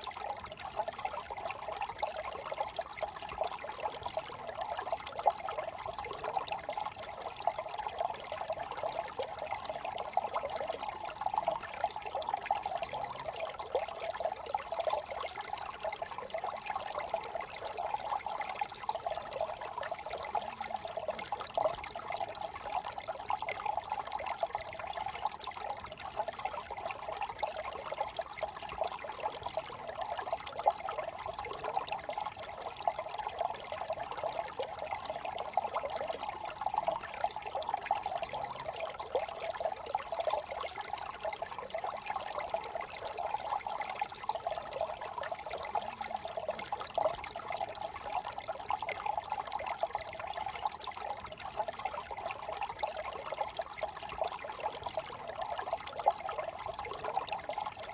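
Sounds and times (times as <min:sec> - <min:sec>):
brook trickling over stones: 0:00.0 - 0:57.9.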